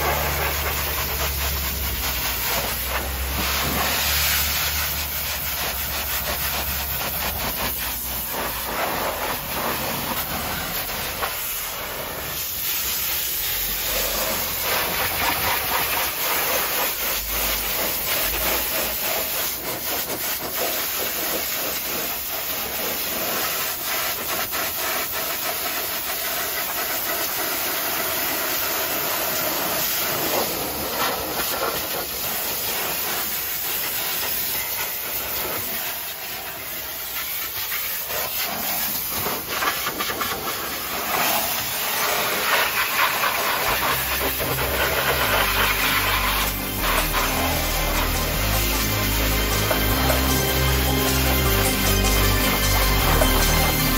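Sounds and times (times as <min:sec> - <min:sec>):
pressure washer water jet spraying: 0:00.0 - 0:53.9.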